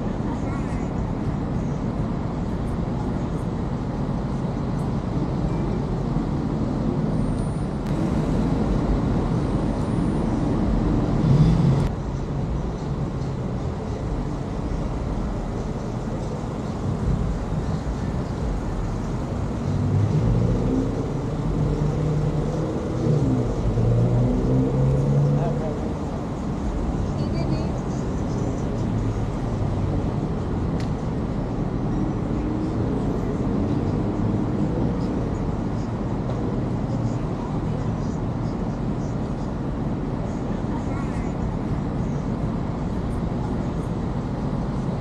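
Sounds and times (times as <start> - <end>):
car engine rumble: 0.0 - 45.0.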